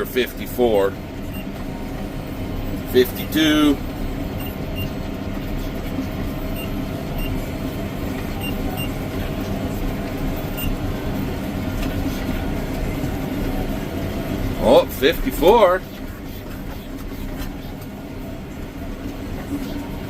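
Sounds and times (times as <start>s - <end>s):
tractor engine and baler running: 0.0s - 20.0s.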